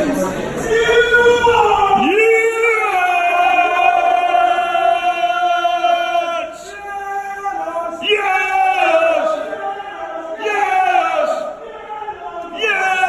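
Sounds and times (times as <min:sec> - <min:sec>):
men singing a chant: 0:00.6 - 0:13.0.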